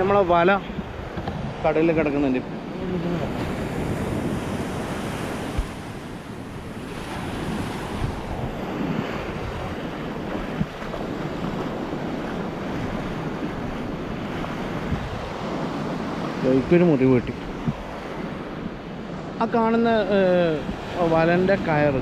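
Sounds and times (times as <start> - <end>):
low wind thumps: 0.0 - 19.4
sea surf washing onto beach: 0.0 - 22.0
wind on microphone: 0.0 - 22.0.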